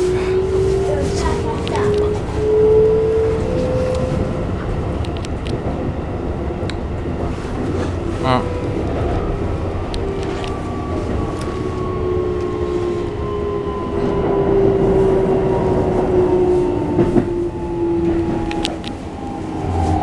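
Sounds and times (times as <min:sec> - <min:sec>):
wheel and rail rumble: 0:00.0 - 0:20.0.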